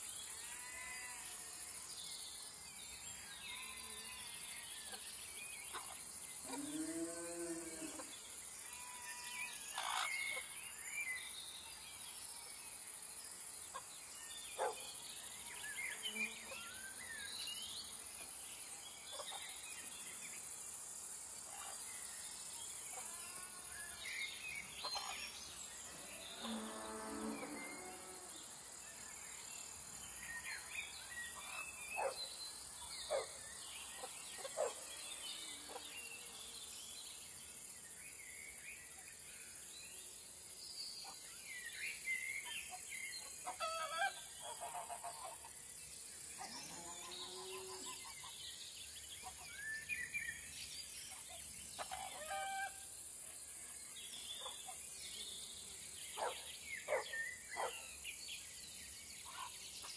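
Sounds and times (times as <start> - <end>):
high insect hiss: 0.0 - 59.9.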